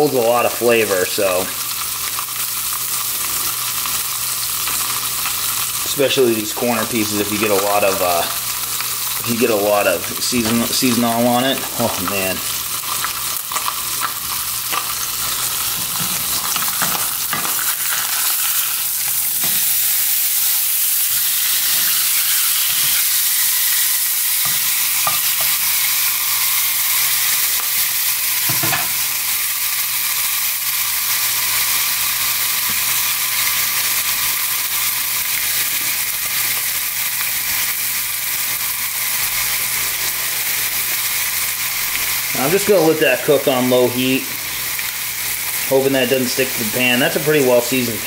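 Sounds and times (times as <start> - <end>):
fillets turned in pan: 0.0 - 48.0
fish fillets sizzling in skillet: 0.0 - 48.0.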